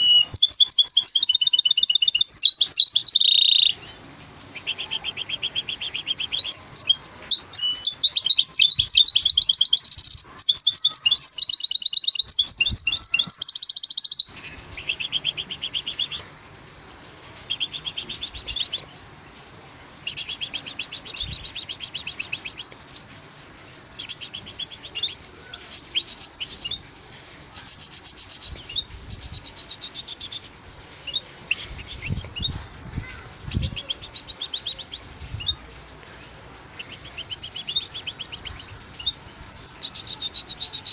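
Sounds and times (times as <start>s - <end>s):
bird twittering trills: 0.0s - 16.3s, 17.4s - 19.0s, 20.0s - 23.1s, 23.8s - 40.9s.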